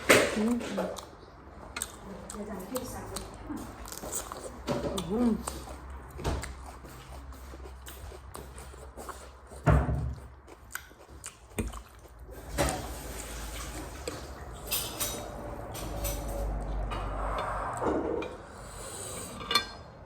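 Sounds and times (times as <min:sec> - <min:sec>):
soft eating sounds: 0:00.0 - 0:19.9.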